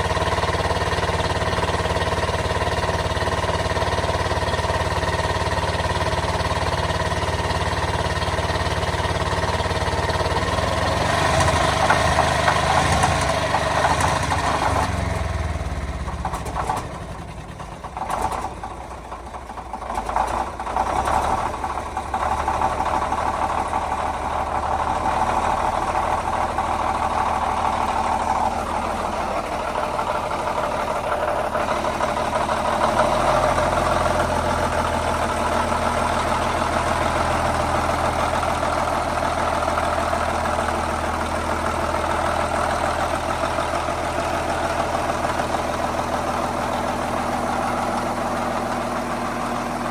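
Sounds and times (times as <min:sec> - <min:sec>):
diesel engine running: 0:00.0 - 0:49.9
engine knocks: 0:00.0 - 0:49.9.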